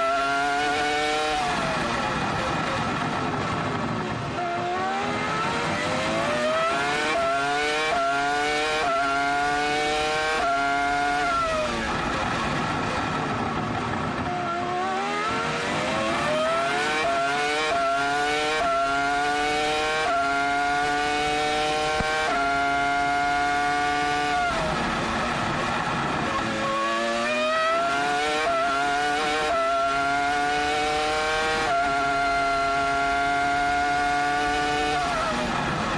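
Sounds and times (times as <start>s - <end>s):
racing car engine shifting gears: 0.0s - 35.9s.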